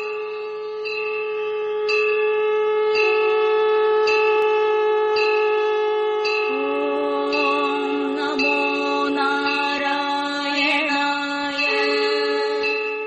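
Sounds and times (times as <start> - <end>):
bell ringing: 0.0 - 13.0
held drone note: 0.0 - 13.0.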